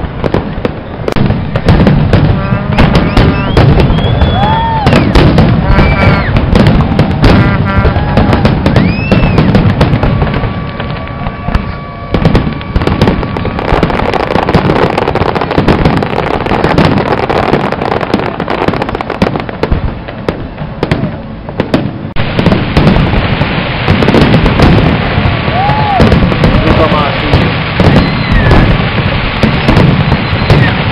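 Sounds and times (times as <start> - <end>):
fireworks crackling: 0.0 - 30.9
firework shell bursts: 1.4 - 30.9.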